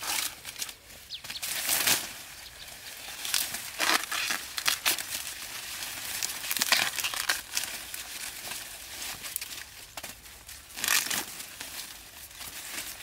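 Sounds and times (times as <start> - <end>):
dry corn leaves rustling: 0.0 - 13.0.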